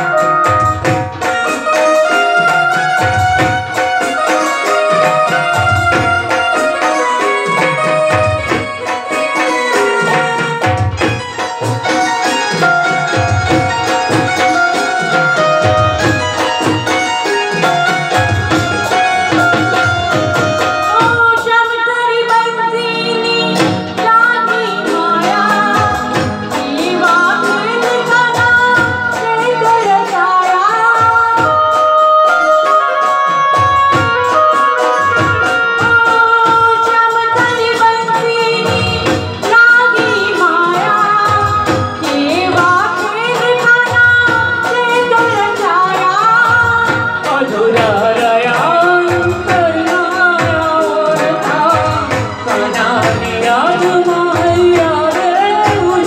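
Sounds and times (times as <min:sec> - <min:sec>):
electronic keyboards: 0:00.0 - 0:56.0
hand drum rhythm: 0:00.0 - 0:56.0
woman singing into microphone: 0:00.0 - 0:56.0.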